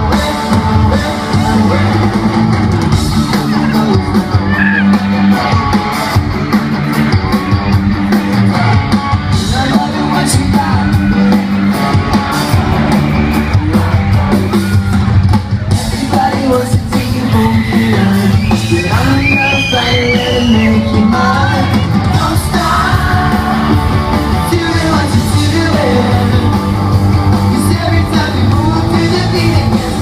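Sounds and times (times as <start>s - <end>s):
sung lead vocal: 0.0s - 14.9s, 15.6s - 30.0s
live pop-punk band playing: 0.0s - 30.0s.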